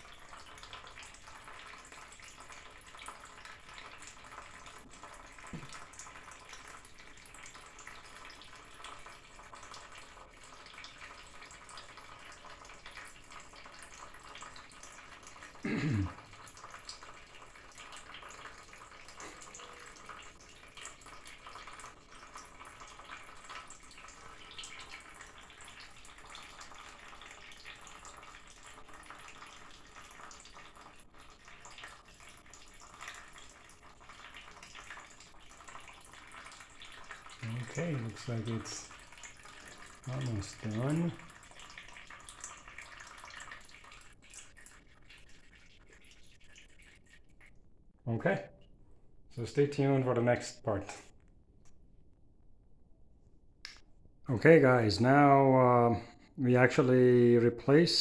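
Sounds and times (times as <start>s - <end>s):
water trickling and dripping: 0.0s - 51.8s.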